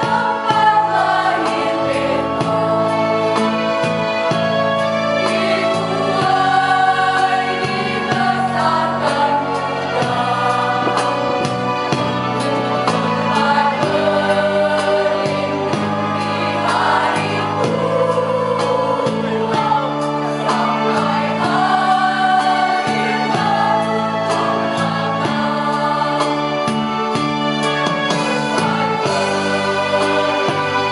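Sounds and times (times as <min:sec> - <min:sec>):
low instrumental chords: 0:00.0 - 0:30.9
mixed choir singing in harmony: 0:00.0 - 0:30.9.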